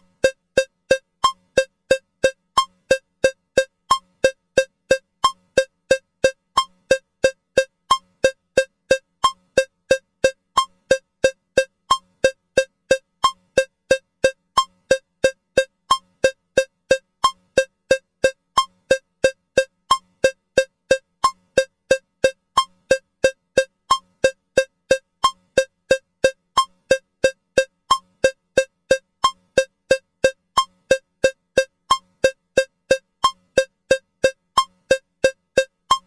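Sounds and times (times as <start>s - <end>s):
metronome cowbell clicking: 0.0s - 36.0s.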